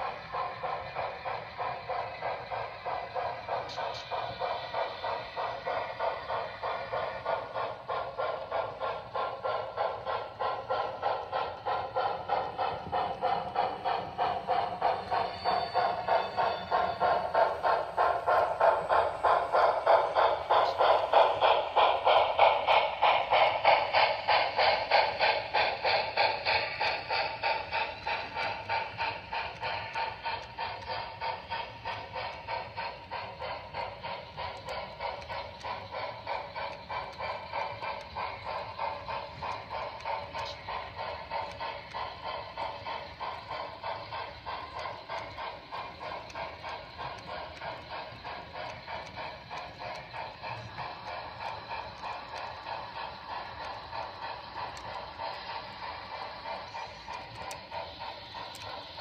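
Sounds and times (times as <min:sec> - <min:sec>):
hopper cars rolling: 0:00.0 - 0:59.0
model steam locomotive chuffing: 0:00.0 - 0:59.0.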